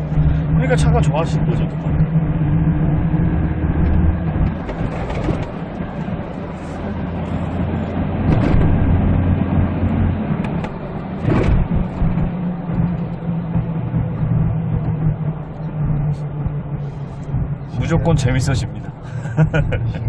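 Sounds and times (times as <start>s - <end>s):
engine and road noise in cabin: 0.0s - 20.0s.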